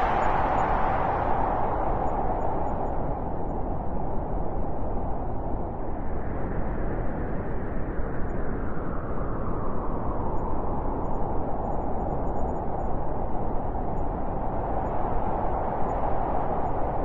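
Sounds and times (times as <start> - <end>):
blizzard wind blowing: 0.0 - 17.0.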